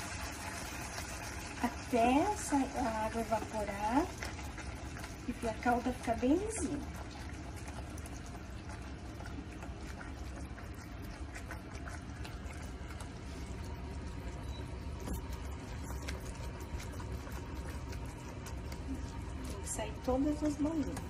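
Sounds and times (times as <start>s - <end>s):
syrup boiling and bubbling: 0.0s - 21.0s
spatula stirring: 2.4s - 21.0s.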